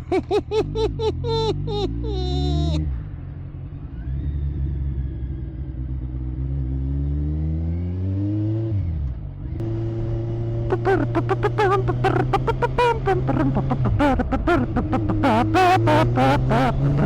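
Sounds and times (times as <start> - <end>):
motorcycle engine revving: 0.7 - 17.0.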